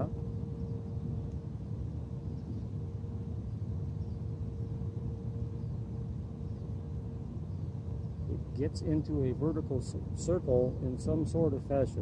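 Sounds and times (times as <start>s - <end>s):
faint steady hum: 0.0s - 12.0s
low outdoor background rumble: 0.0s - 12.0s.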